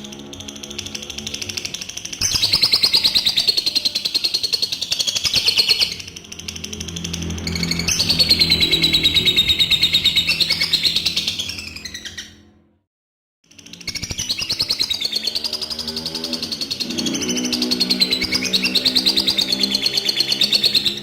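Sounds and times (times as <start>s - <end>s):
lovebird chattering trills: 0.0s - 12.3s, 13.8s - 21.0s.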